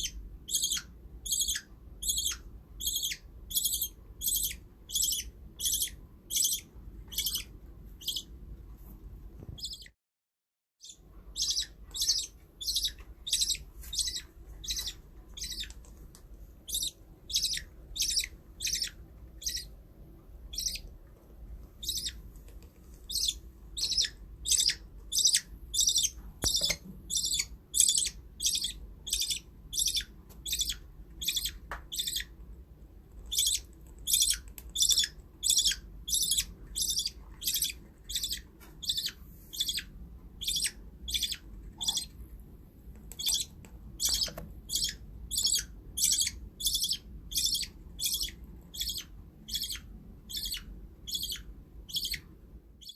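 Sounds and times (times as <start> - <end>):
budgerigar chirping: 0.0 - 8.3, 9.6 - 9.9, 10.8 - 15.8, 16.6 - 19.8, 20.5 - 20.9, 21.8 - 22.2, 23.1 - 32.4, 33.2 - 42.2, 43.1 - 52.9.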